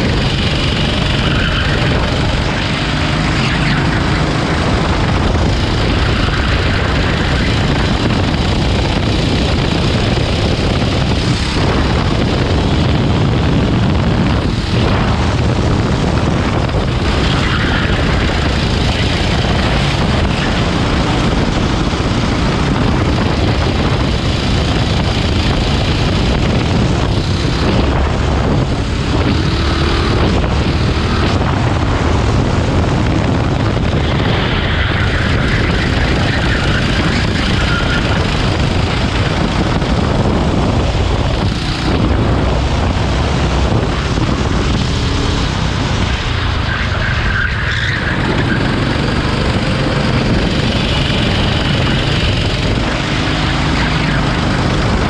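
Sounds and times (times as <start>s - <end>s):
go-kart engine and wind rush: 0.0s - 55.0s.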